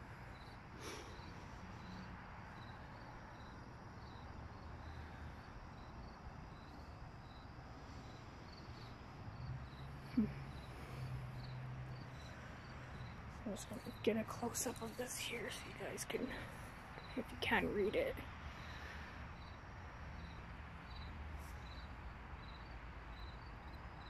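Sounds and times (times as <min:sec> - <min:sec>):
crickets chirping: 0:00.0 - 0:24.0
street traffic hum: 0:00.0 - 0:24.0.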